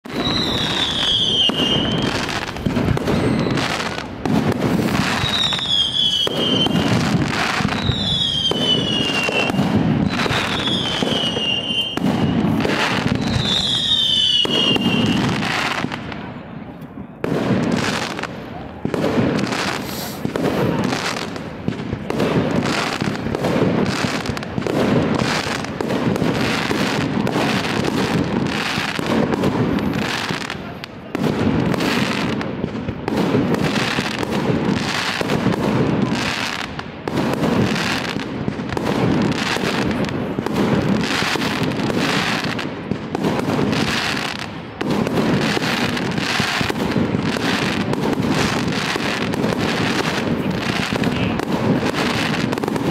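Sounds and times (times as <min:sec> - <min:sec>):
fireworks bursting: 0:00.0 - 0:52.9.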